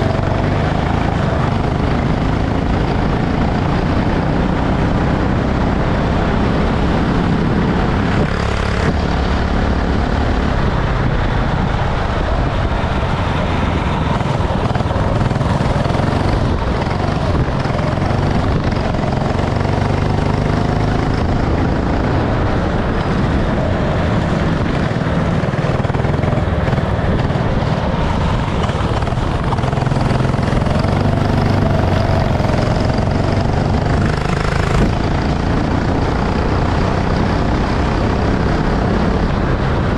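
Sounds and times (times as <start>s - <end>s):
go-kart engine racing: 0.0s - 39.9s
heavy low rumble: 0.0s - 39.9s
loud rushing noise: 0.0s - 39.9s.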